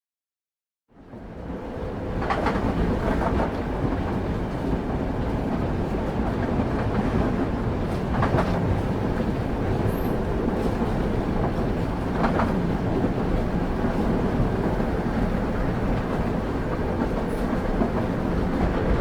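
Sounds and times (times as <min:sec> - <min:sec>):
train rumbling on rails: 0:00.9 - 0:19.0.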